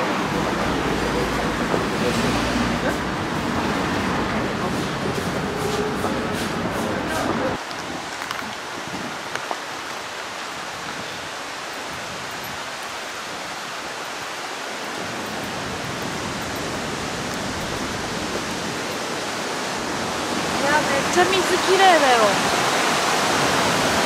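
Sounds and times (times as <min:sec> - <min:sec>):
river rushing over a weir: 0:00.0 - 0:24.0.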